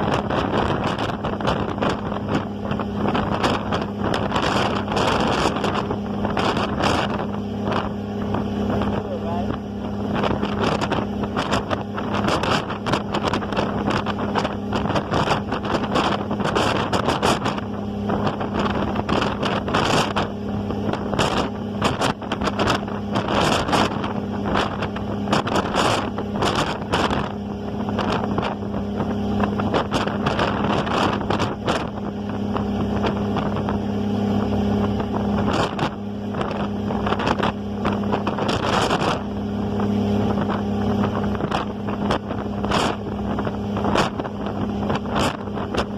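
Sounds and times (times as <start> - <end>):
ferry engine humming: 0.0 - 45.9
wind buffeting microphone: 0.0 - 45.9.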